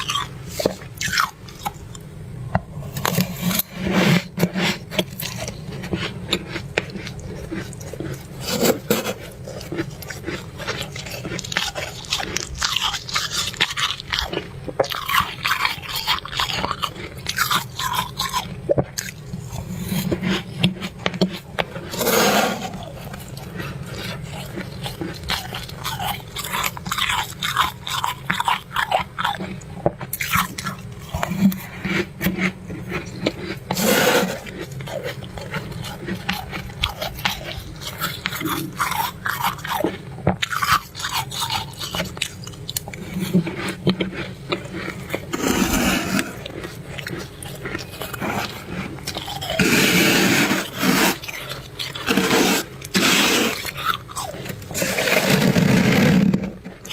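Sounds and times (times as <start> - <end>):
crunchy ice chewing: 0.0 - 2.1, 2.8 - 56.9.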